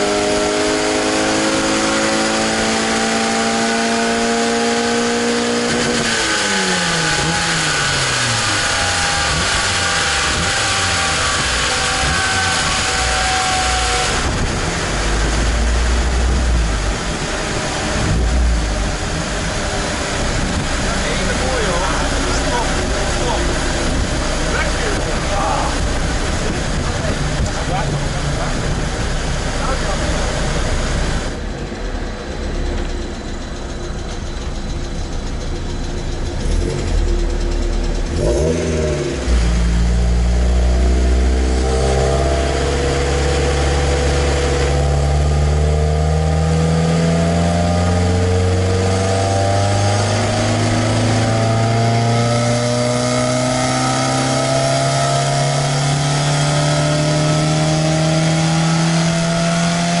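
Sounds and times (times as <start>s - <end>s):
car engine revving on dyno: 0.0s - 33.0s, 36.0s - 60.0s.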